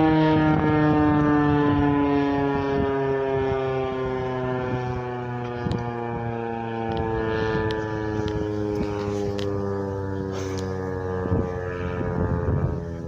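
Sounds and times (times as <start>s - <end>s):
warning siren steady alert tone: 0.0s - 13.0s.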